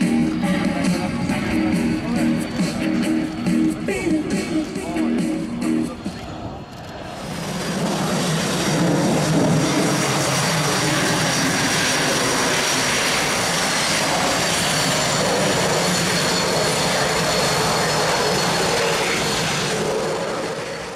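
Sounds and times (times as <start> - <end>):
jet engines taxiing: 0.0 - 20.9.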